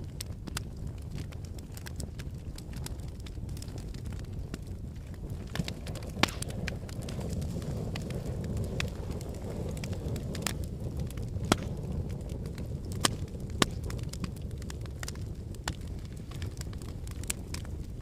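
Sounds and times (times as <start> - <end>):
fire flames rumbling: 0.0 - 18.0
logs crackling and popping: 0.0 - 18.0.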